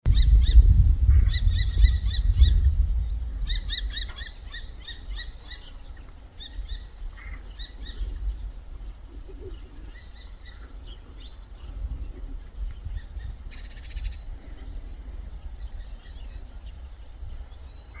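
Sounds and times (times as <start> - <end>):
low rumble: 0.0 - 17.8
songbirds chirping: 0.1 - 18.0.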